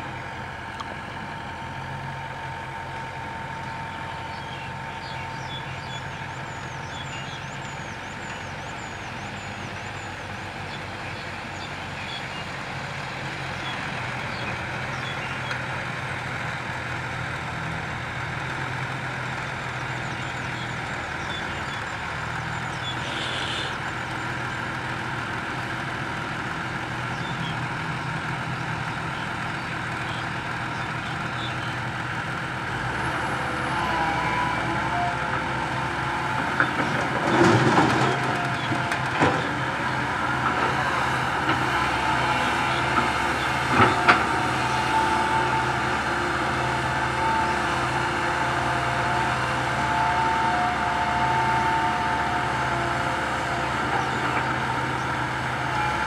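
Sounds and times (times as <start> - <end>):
dump truck engine: 0.0 - 56.0
excavator diesel engine: 0.0 - 56.0.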